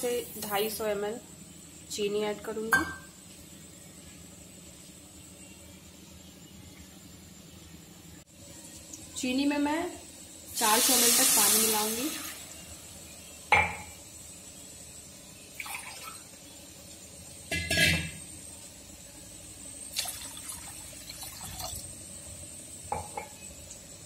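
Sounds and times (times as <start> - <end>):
gas burner hiss: 0.0 - 5.1, 8.6 - 24.0.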